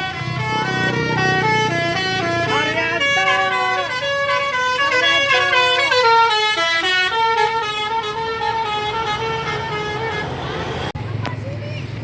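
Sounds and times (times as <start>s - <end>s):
musical bus air horn: 0.0s - 10.9s.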